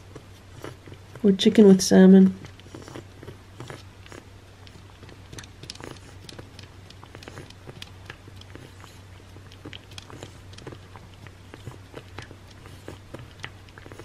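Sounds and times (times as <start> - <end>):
low steady hum: 0.0 - 14.0
cat licking wetly: 2.4 - 14.0.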